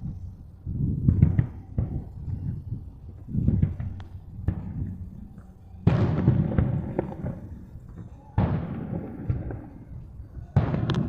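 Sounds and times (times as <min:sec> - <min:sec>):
fireworks booming: 0:00.0 - 0:11.0
firework sharp crack: 0:00.8 - 0:11.0.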